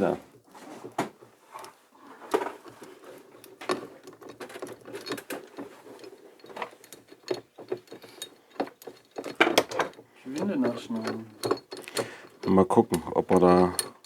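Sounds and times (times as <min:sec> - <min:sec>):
metal tools clinking and rattling: 0:02.2 - 0:14.0.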